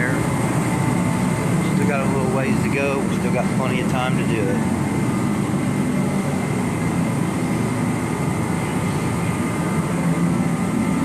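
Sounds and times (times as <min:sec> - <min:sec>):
machine droning: 0:00.0 - 0:11.0.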